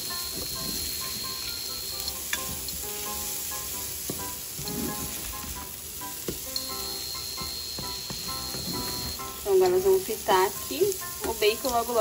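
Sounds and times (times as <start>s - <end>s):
bacon sizzling in a frying pan: 0.0s - 12.0s.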